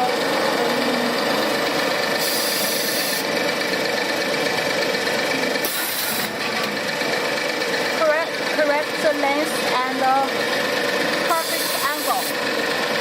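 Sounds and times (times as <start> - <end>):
production line machinery running: 0.0 - 13.0.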